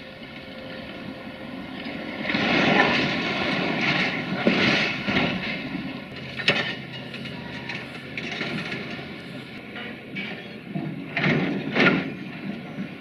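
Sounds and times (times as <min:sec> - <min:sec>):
excavator engine: 0:00.0 - 0:13.0.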